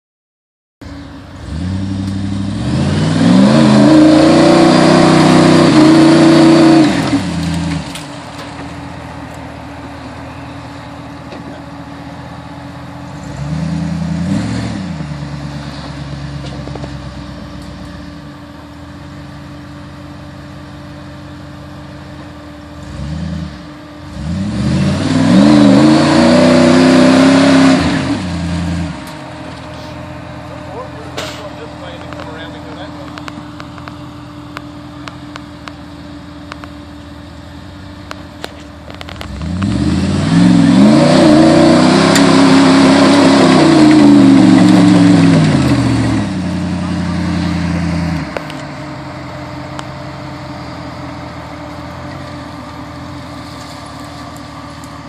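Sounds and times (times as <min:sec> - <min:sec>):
buggy engine revving: 0:00.8 - 0:55.0.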